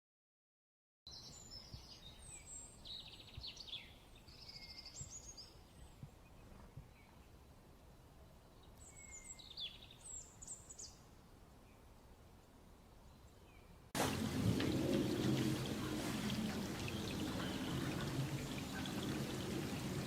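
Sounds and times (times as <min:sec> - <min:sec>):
songbird chirping and trilling: 0:01.1 - 0:07.4, 0:08.3 - 0:11.9, 0:13.0 - 0:20.0
low steady background noise: 0:01.1 - 0:20.0.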